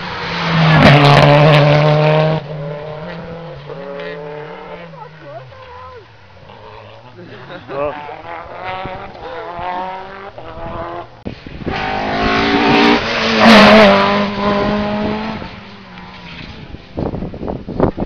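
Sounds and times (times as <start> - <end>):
rally car passing at high revs: 0.0 - 17.9.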